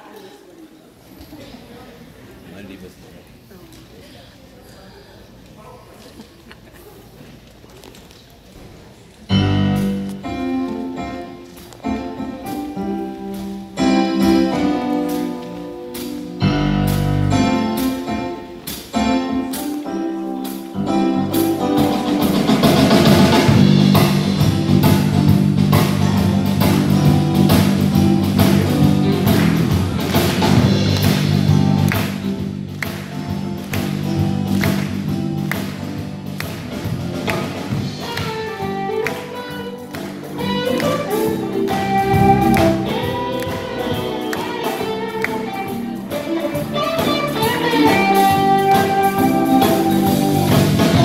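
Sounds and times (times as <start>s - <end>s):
live jazz band playing: 9.2s - 51.0s
drum kit: 9.3s - 51.0s.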